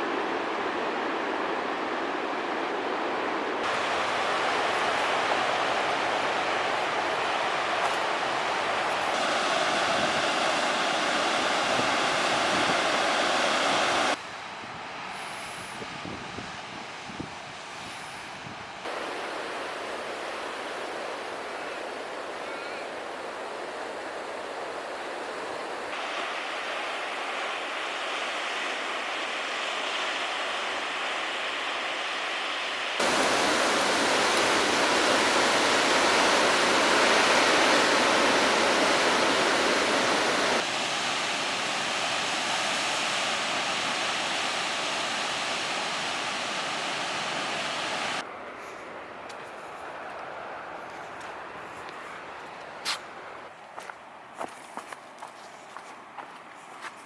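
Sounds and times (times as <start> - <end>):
steady outdoor rushing noise: 0.0 - 14.3, 18.8 - 53.5.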